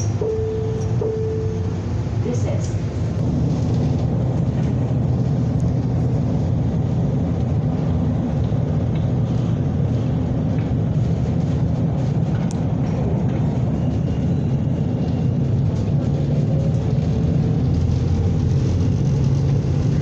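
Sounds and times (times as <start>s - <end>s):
people-mover car rumble: 0.0s - 20.0s.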